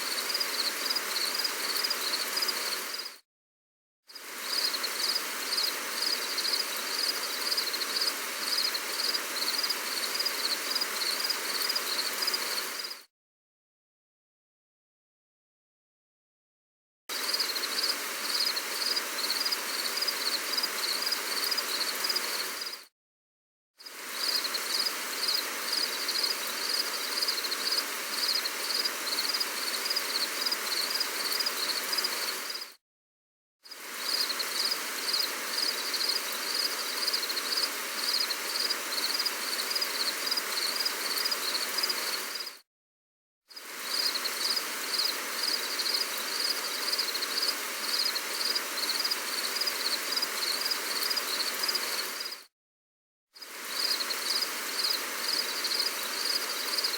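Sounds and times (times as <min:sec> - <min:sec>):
gentle rain hiss: 0:00.0 - 0:03.2, 0:04.1 - 0:13.1, 0:17.1 - 0:22.9, 0:23.8 - 0:32.8, 0:33.7 - 0:42.6, 0:43.5 - 0:52.5, 0:53.4 - 0:56.9
insects chirping: 0:00.0 - 0:03.2, 0:04.2 - 0:13.0, 0:17.1 - 0:22.9, 0:23.8 - 0:32.8, 0:33.7 - 0:42.6, 0:43.6 - 0:52.4, 0:53.4 - 0:56.9.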